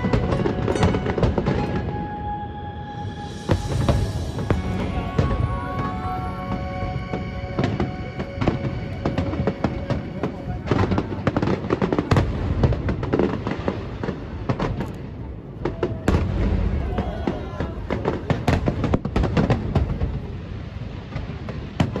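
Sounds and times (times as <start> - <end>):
fireworks bursting and crackling: 0.0 - 22.0
heavy fireworks booms: 0.0 - 22.0.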